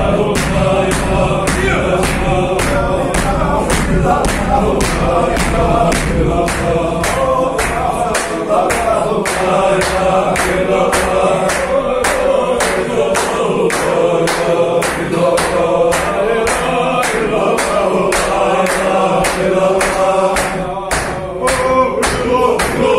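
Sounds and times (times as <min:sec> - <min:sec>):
men chanting in unison: 0:00.0 - 0:22.9
rhythmic hand-clapping: 0:00.0 - 0:22.9.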